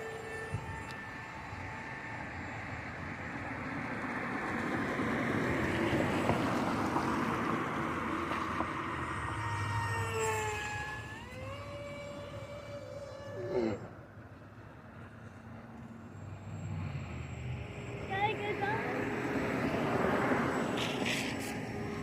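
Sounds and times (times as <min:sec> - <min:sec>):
model plane motor whining: 0:00.0 - 0:22.0.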